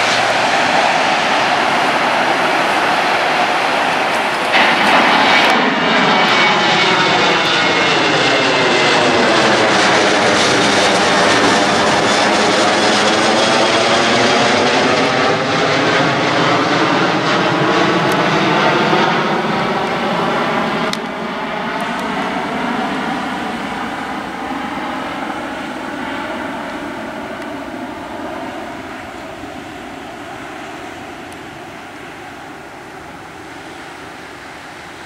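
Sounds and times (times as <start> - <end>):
jet airliner roar overhead: 0.0 - 35.0.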